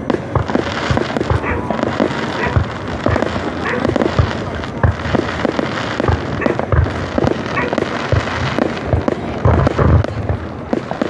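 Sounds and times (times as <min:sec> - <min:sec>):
fireworks booming and banging: 0:00.0 - 0:11.0.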